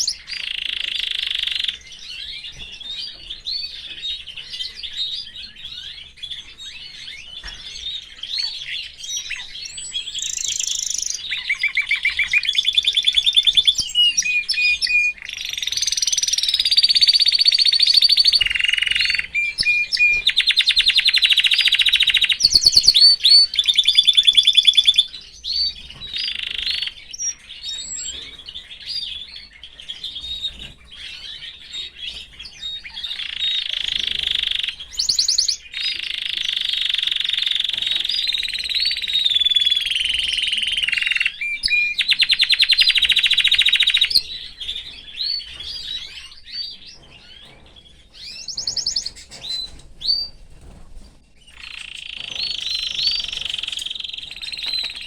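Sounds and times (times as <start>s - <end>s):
canary singing: 0.0s - 50.8s, 51.4s - 55.0s.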